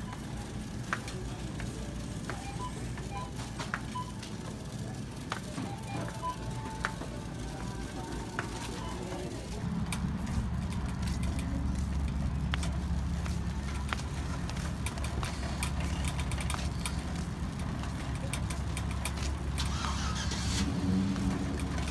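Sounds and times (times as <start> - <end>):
shopping cart rolling over asphalt: 0.1 - 21.9.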